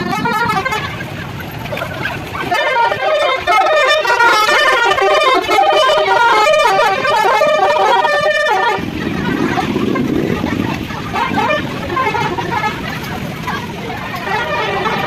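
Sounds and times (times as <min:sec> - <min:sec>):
musical vehicle horn tune: 0:00.0 - 0:15.0.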